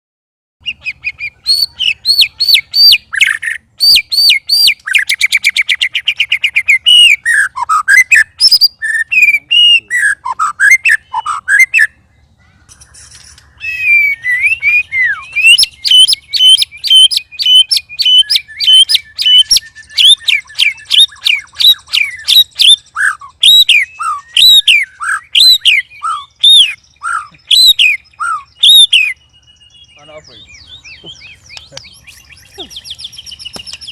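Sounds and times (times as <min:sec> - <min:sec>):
songbird singing whistles and trills: 0:00.6 - 0:33.9.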